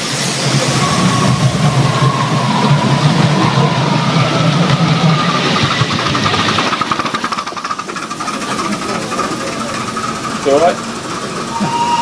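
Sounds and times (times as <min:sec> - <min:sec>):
train wheels clattering on rails: 0:00.0 - 0:12.0.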